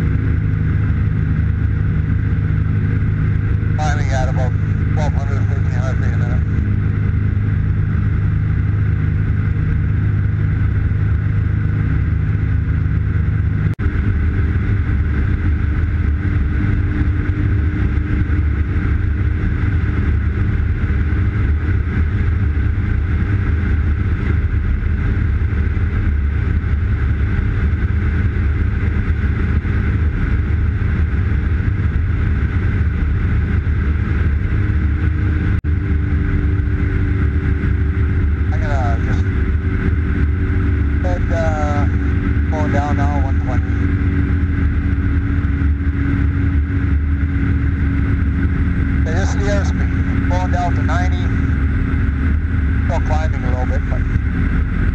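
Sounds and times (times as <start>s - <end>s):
propeller engine drone in cockpit: 0.0s - 54.9s.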